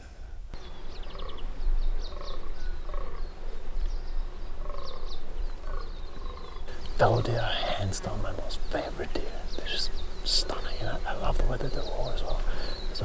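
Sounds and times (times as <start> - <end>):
deer buck croaking: 0.0 - 3.5, 4.5 - 13.0.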